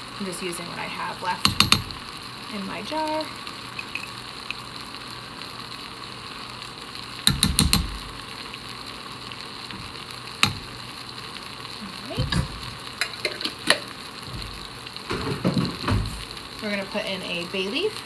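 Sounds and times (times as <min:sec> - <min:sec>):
onions sizzling: 0:00.0 - 0:18.0.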